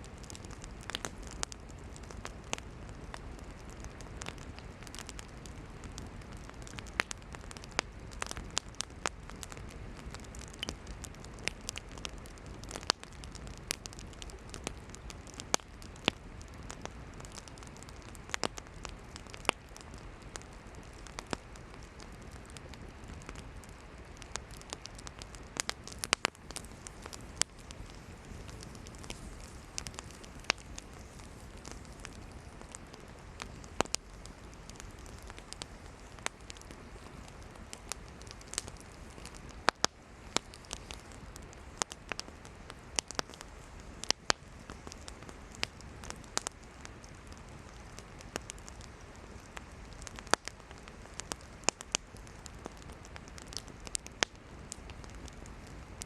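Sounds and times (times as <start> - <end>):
campfire crackling and popping: 0.0 - 56.0
soft fire hiss: 0.0 - 56.0.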